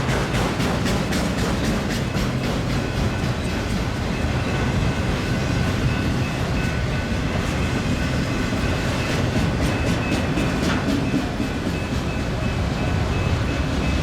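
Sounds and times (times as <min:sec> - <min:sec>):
freight train rumbling on rails: 0:00.0 - 0:14.0
train cars clattering: 0:00.0 - 0:14.0.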